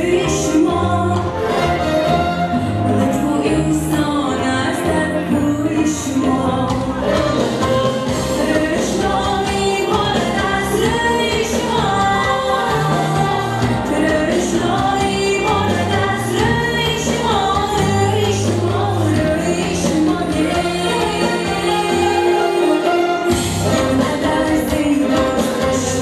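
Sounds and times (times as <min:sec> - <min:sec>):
woman singing into microphone: 0:00.0 - 0:01.4, 0:02.9 - 0:26.0
electronic keyboard backing: 0:00.0 - 0:26.0.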